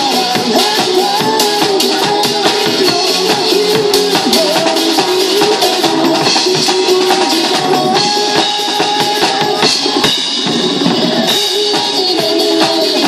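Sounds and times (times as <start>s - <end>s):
acoustic drum kit playing: 0.0s - 13.0s
pop song backing track: 0.0s - 13.0s.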